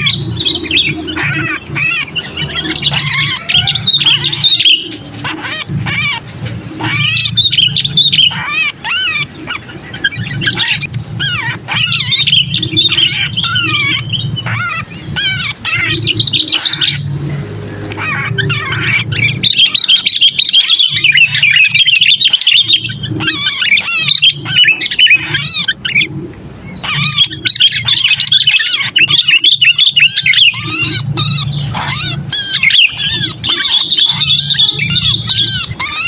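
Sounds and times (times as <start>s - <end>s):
bird distress calls: 0.0s - 36.0s.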